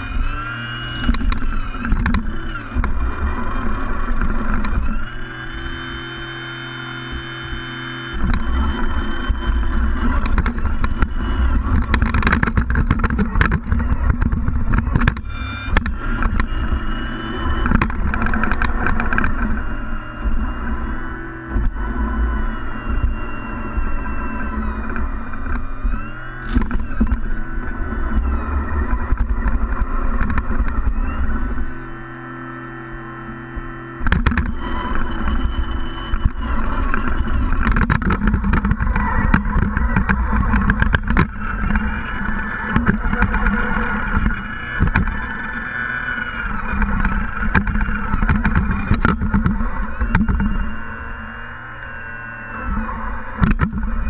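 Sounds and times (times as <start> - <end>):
sharp clicks and knocks: 0.0 - 6.1, 7.1 - 31.9, 33.5 - 54.0
rc truck engines revving: 0.0 - 54.0.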